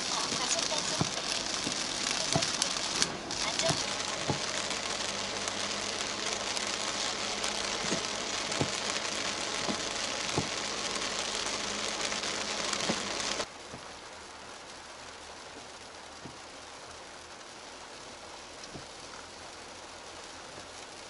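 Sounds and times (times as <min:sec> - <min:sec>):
heavy rain on a car: 0:00.0 - 0:21.0
heavy raindrops striking: 0:00.0 - 0:21.0.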